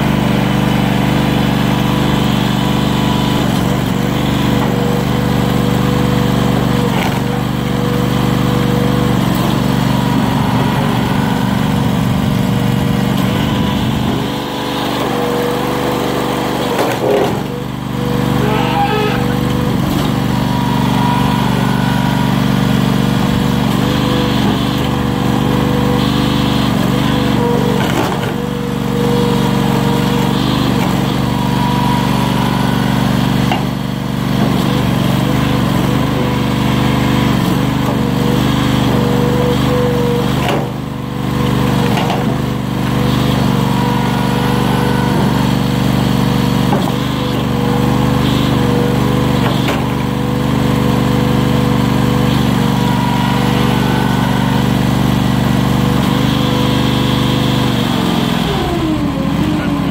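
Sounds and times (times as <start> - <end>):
engine running steadily: 0.0 - 59.9
hydraulic pump whine: 0.0 - 59.9.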